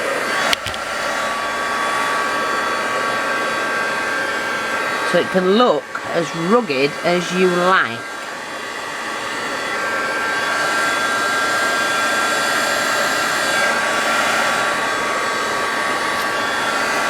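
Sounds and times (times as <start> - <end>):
heat gun blowing: 0.0 - 17.0.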